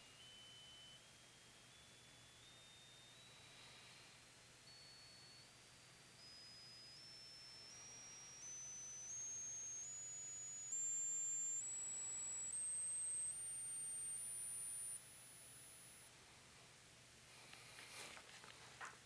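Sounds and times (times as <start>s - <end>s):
stepped sine-wave test tone: 0.0s - 18.9s.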